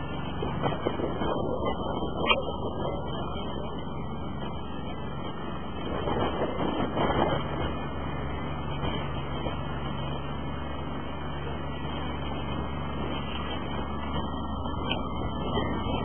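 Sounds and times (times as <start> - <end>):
motorboat engine drone: 0.0 - 16.0
water rushing: 0.0 - 16.0
wind: 0.0 - 16.0.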